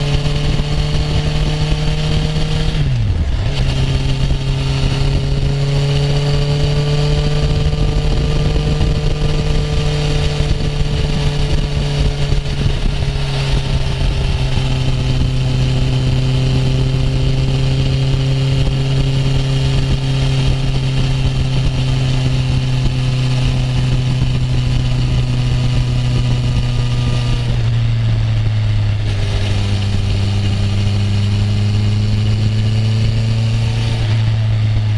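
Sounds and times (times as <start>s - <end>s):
motorcycle engine cruising: 0.0s - 34.9s.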